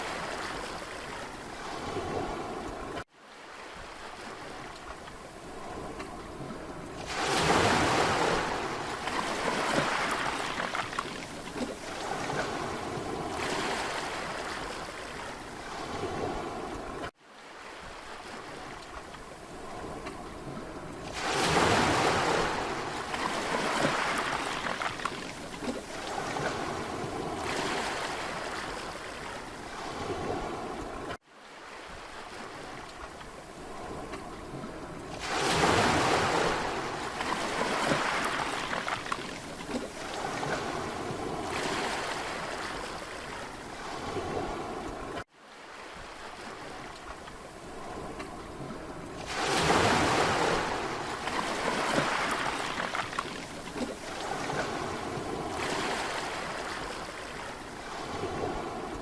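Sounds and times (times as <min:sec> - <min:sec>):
sea waves breaking on a beach: 0:00.0 - 0:59.0.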